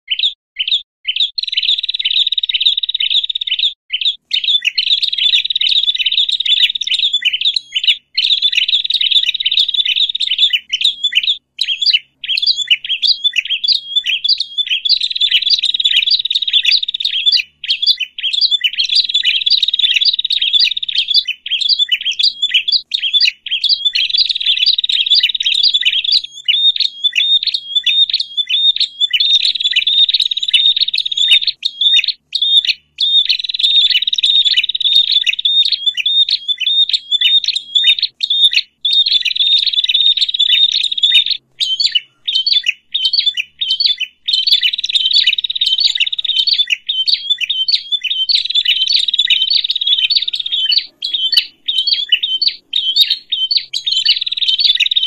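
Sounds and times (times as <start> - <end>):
songbirds chattering: 0.1 - 55.0.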